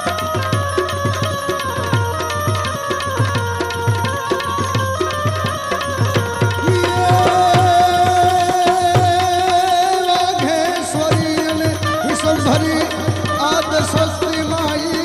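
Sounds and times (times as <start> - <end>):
tabla strokes: 0.0 - 15.0.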